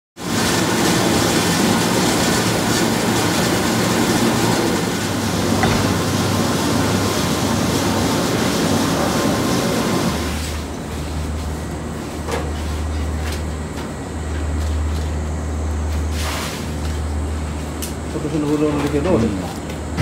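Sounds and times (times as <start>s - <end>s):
destemmer machine rumbling: 0.2s - 20.0s.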